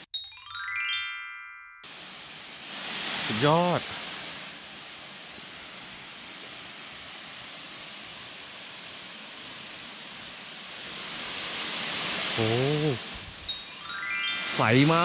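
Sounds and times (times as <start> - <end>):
waterfall rushing into pool: 1.8 - 15.0.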